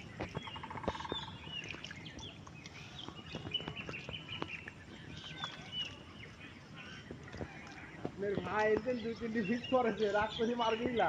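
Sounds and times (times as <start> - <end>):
splashes in shallow water: 0.0 - 9.5
birds chirping: 0.0 - 11.0.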